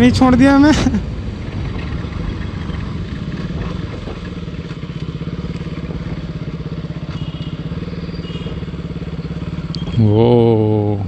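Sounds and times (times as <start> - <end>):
motorcycle engine throbbing: 0.0 - 11.0.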